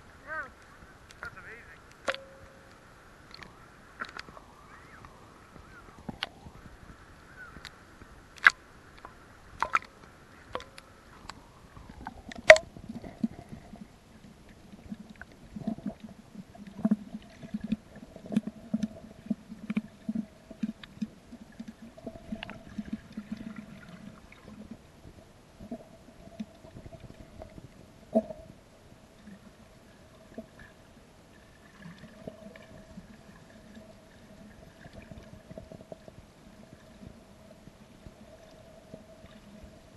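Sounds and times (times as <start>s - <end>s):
muffled underwater sound: 0.0s - 39.9s.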